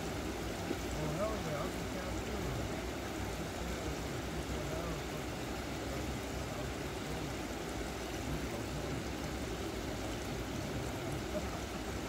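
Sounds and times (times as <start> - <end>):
water rushing through spillway: 0.0 - 12.0.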